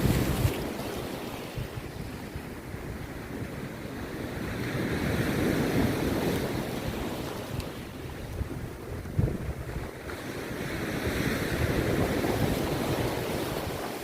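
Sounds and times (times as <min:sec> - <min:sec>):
sea surf breaking on beach: 0:00.0 - 0:14.0
wind rumbling on microphone: 0:00.0 - 0:14.0.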